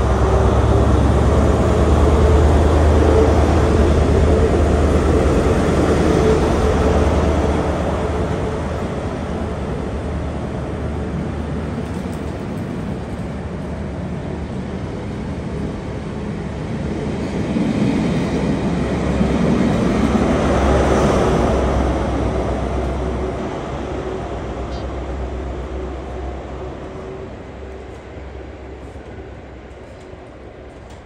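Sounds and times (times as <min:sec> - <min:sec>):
diesel train passing: 0:00.0 - 0:31.0
train wheels on rails: 0:00.0 - 0:31.0.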